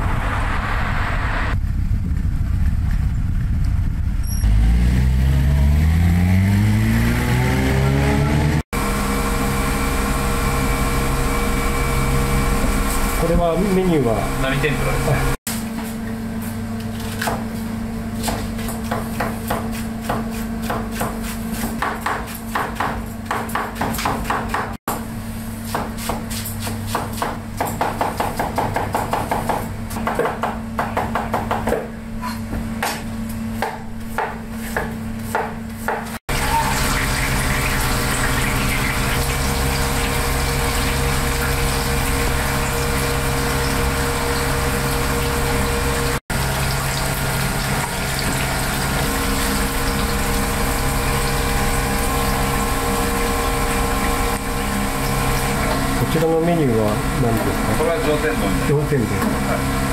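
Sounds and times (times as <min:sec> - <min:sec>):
ventilation hum: 0:08.4 - 0:59.9.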